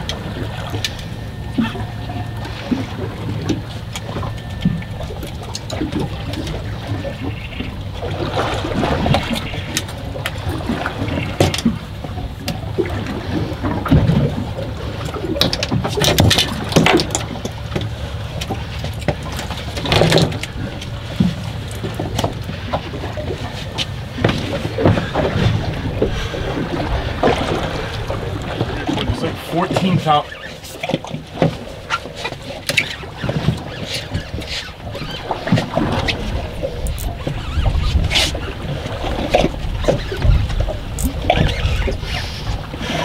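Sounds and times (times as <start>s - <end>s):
knocks and slaps against boat: 0.0s - 43.0s
water and wind around hull: 0.0s - 43.0s.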